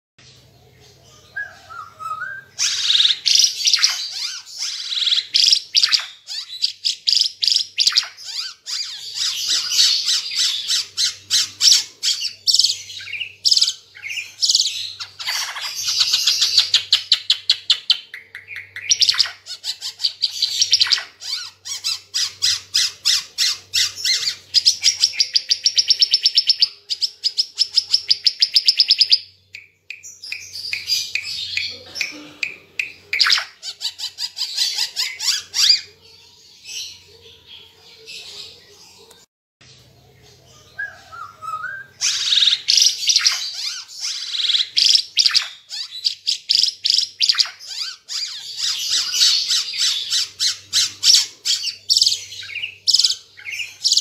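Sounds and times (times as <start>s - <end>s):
songbird singing and trilling: 0.2s - 54.0s.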